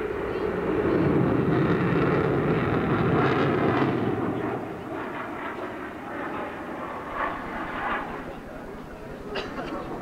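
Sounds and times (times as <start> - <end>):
aircraft engine in flight: 0.0 - 10.0.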